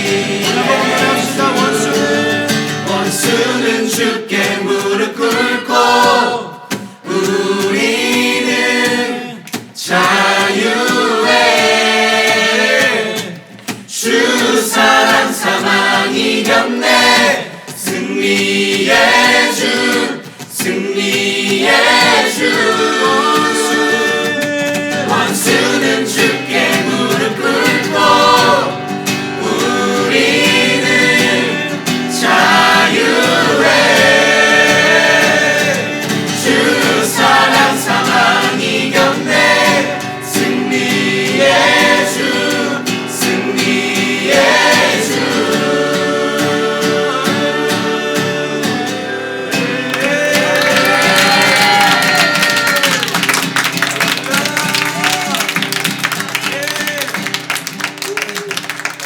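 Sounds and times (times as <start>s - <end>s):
group singing a worship song: 0.0s - 53.1s.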